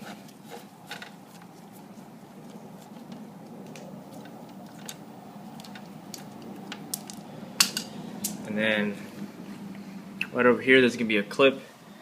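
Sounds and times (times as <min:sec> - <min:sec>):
low hum: 0:01.3 - 0:12.0.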